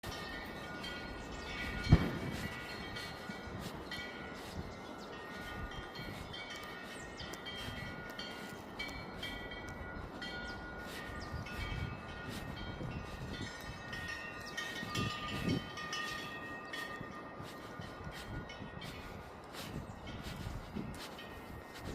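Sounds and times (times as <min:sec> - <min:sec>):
wind bells ringing: 0:00.0 - 0:21.9
wind rumbling on microphone: 0:00.0 - 0:21.9.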